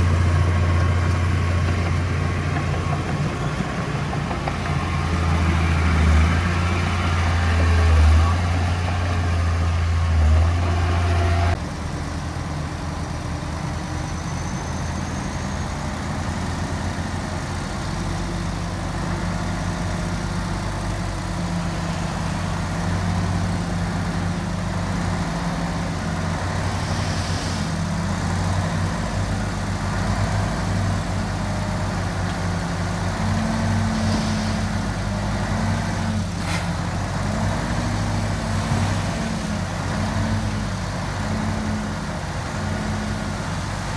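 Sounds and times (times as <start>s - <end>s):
heavy diesel engine running: 0.0s - 14.1s, 16.1s - 43.9s.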